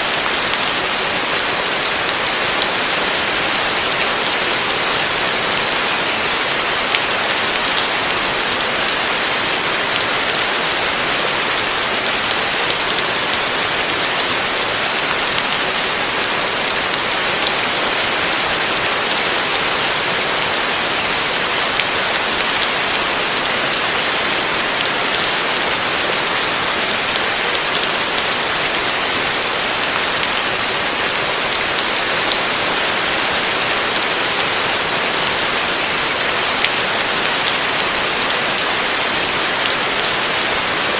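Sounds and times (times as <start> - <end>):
heavy rain on a roof: 0.0 - 40.9
ticks of raindrops: 0.0 - 40.9.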